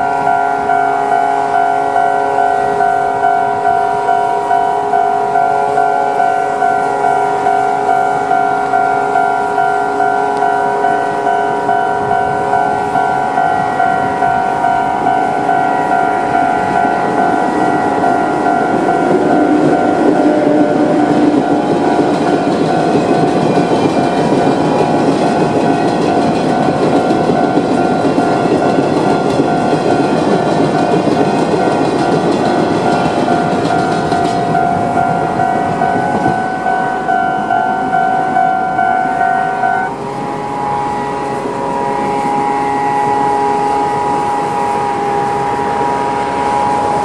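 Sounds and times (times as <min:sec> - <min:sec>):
steady electronic tone: 0:00.0 - 0:23.7, 0:31.6 - 0:47.0
freight train rumbling over rails: 0:00.0 - 0:47.0
level crossing alarm ringing: 0:00.0 - 0:47.0.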